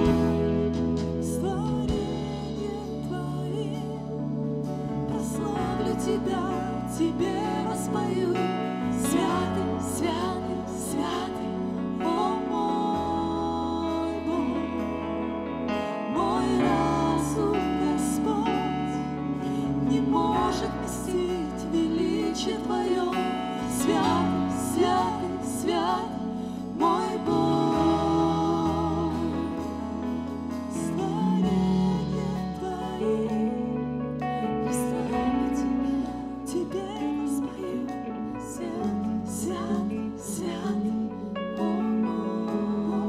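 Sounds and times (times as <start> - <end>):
bass line: 0.0 - 43.0
voices singing slow hymn: 0.0 - 43.0
worship band playing: 0.0 - 43.0.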